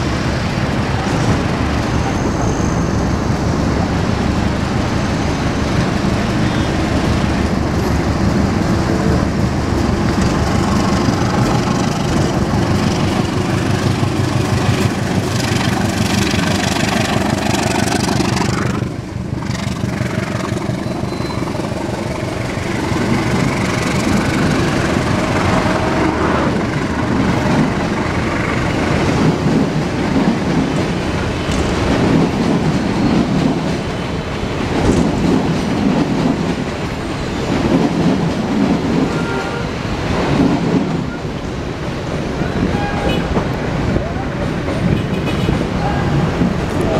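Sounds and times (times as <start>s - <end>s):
diesel locomotive engine: 0.0s - 46.9s
train wheels rumbling on rail: 0.0s - 46.9s.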